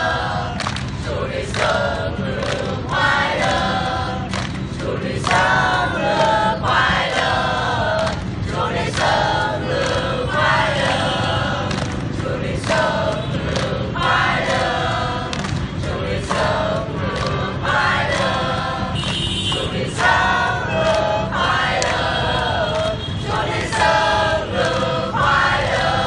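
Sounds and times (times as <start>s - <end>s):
mixed choir singing: 0.0s - 26.0s.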